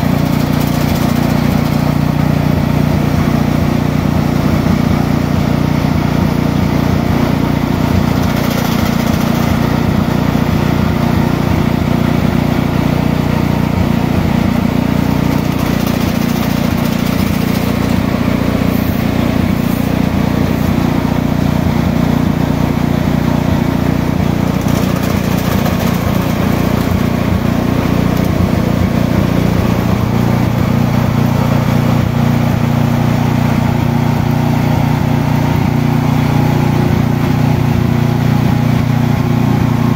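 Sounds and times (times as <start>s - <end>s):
fan blowing air: 0.0s - 39.9s
small engine running: 0.0s - 39.9s.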